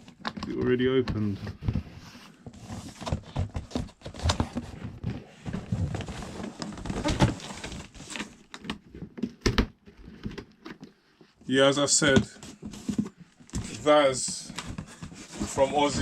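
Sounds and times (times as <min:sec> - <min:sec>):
packaging rustling and knocking: 0:00.0 - 0:10.9, 0:12.0 - 0:16.0.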